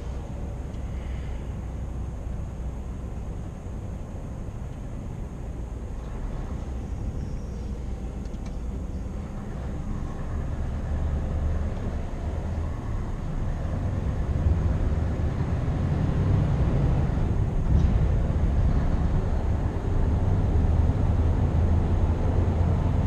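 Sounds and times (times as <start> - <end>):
diesel truck engine droning: 0.0 - 23.0.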